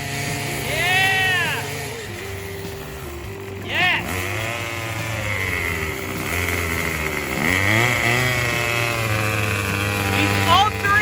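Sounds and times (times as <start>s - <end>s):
trimmer engine running unevenly: 0.0s - 11.0s.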